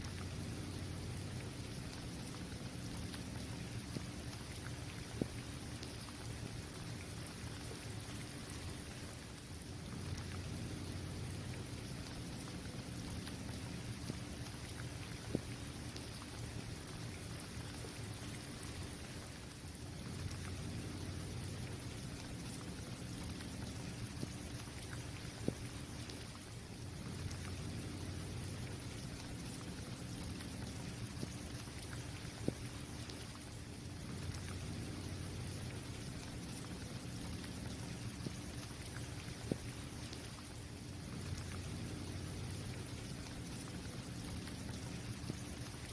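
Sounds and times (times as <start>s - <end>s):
rain falling on a court: 0.0s - 45.9s.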